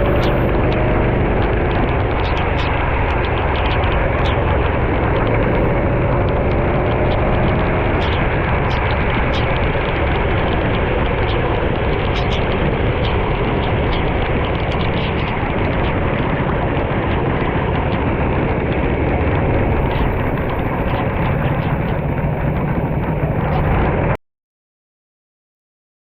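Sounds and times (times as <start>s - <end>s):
go-kart engine running: 0.0s - 24.2s
wind noise on microphone: 0.0s - 24.2s.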